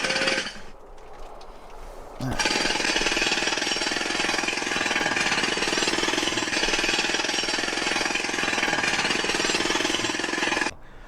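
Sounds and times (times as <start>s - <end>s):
rapid mechanical hammering: 0.0s - 0.6s, 2.3s - 10.7s.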